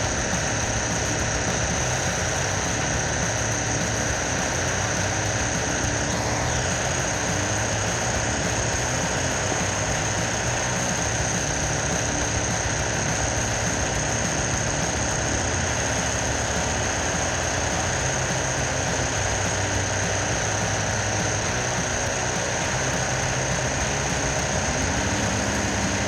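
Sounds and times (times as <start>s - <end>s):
chainsaw engine running: 0.0s - 26.0s.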